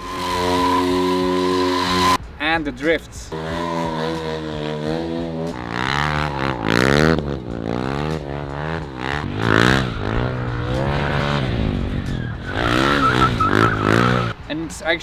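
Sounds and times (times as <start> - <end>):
motorcycle engine revving: 0.0 - 2.2, 3.3 - 14.4
tyres skidding: 0.0 - 2.2, 3.3 - 14.5.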